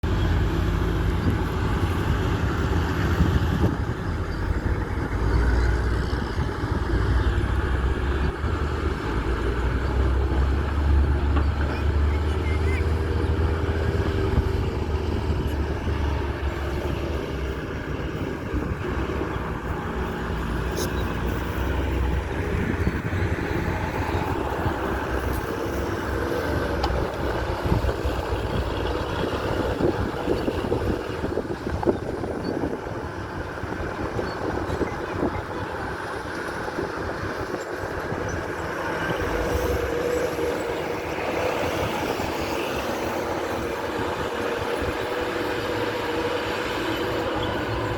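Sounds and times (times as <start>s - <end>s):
heavy diesel machinery engines: 0.0s - 47.9s.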